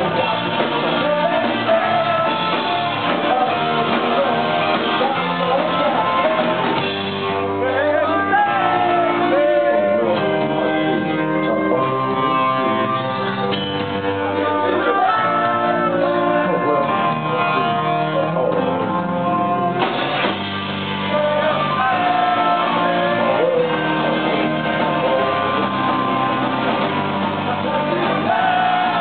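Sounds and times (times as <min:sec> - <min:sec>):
person singing: 0:00.0 - 0:20.0, 0:20.9 - 0:29.0
live punk band playing: 0:00.0 - 0:29.0
saxophone: 0:00.0 - 0:29.0.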